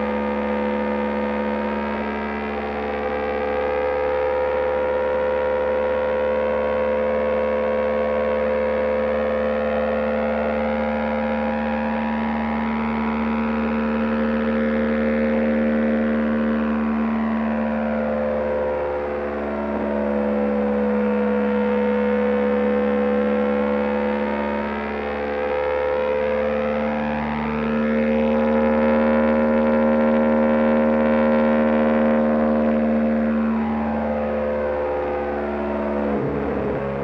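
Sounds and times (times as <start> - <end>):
motorcycle engine droning: 0.0 - 37.0.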